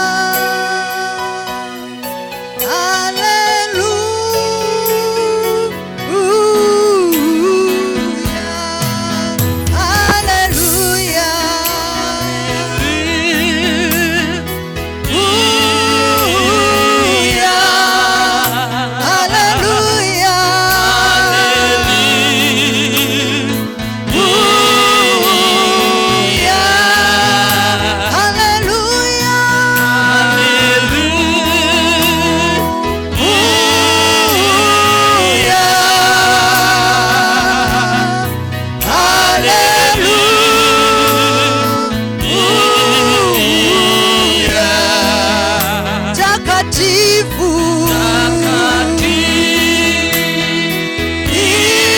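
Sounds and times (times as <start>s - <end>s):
gospel singing with vibrato: 0.0s - 51.9s
bass line: 8.8s - 17.7s, 19.0s - 51.9s.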